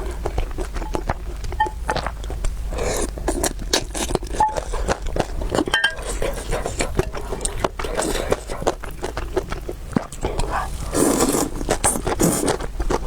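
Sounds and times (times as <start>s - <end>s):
person chewing and slurping: 0.0s - 13.0s.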